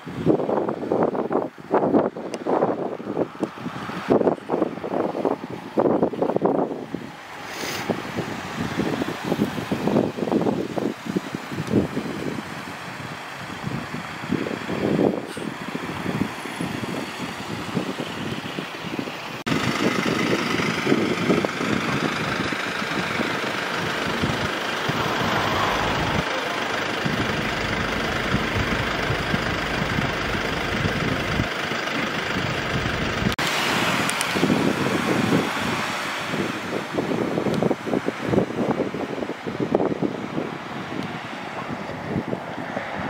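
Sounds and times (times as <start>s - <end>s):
vehicle engines idling: 0.0s - 40.0s.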